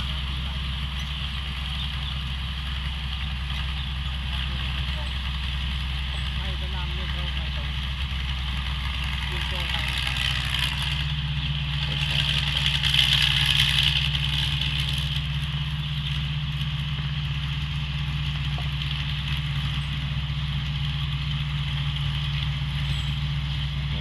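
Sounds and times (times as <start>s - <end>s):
combine harvester engine running: 0.0s - 24.0s.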